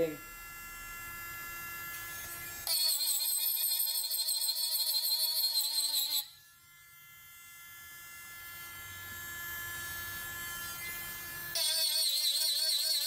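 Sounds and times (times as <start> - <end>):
rotary tool high electric whine: 0.0 - 13.0.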